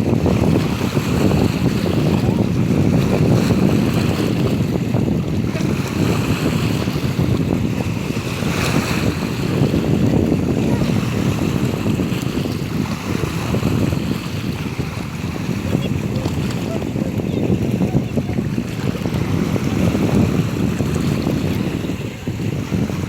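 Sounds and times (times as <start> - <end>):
sea waves washing: 0.0 - 23.0
wind blowing across microphone: 0.0 - 23.0.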